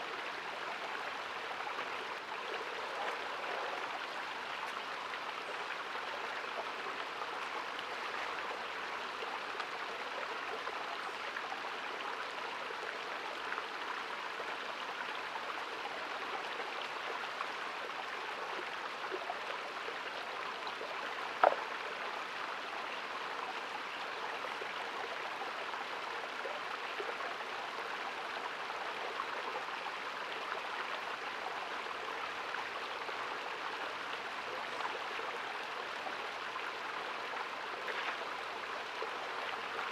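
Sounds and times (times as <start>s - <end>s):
creek running over stones: 0.0s - 39.9s.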